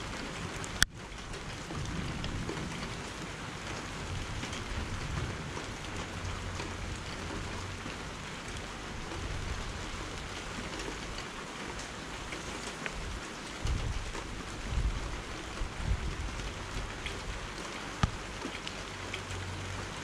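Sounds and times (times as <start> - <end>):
low uneven rumble: 0.0 - 20.0
steady rain falling: 0.0 - 20.0.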